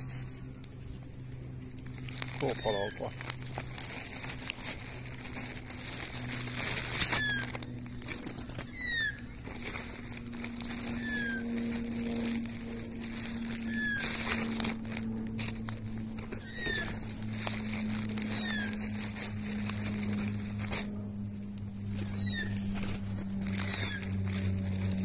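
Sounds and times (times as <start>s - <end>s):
steady low hum: 0.0s - 25.0s
wing flapping: 0.0s - 25.0s.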